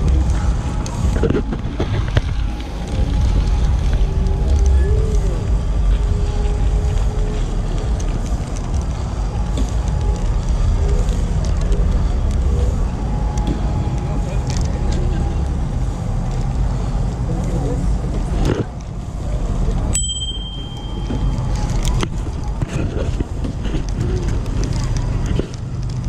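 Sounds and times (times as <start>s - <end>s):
faint music: 0.0s - 26.0s
faint voices: 0.0s - 26.0s
wind and riding noise: 0.0s - 26.0s.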